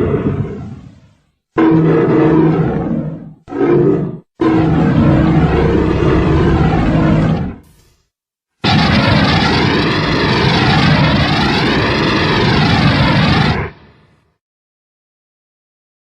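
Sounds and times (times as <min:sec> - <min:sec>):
monster roars: 0:00.0 - 0:07.6, 0:08.6 - 0:13.9.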